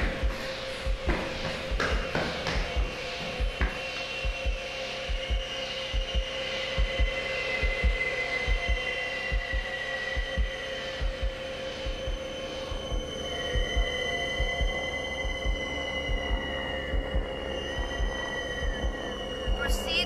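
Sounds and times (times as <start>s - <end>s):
low heartbeat-like double thumps: 0.0s - 20.0s
steady hum: 0.0s - 20.0s.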